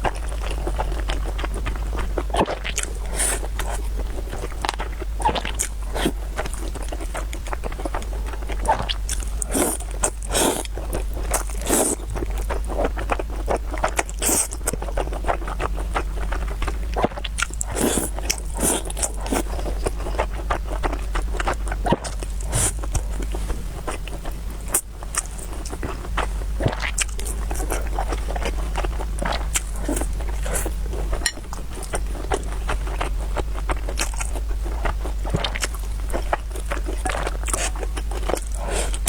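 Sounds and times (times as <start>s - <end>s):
person chewing food: 0.0s - 39.0s
steady low hum: 0.0s - 39.0s.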